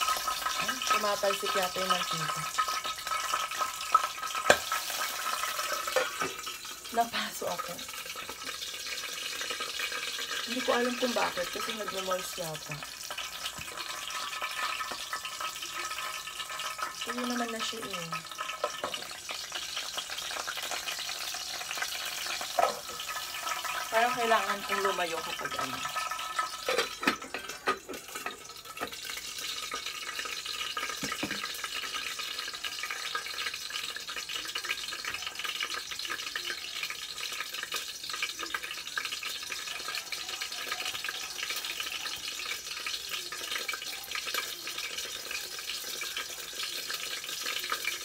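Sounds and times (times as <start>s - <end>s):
onion sizzling in hot oil: 0.0s - 48.0s.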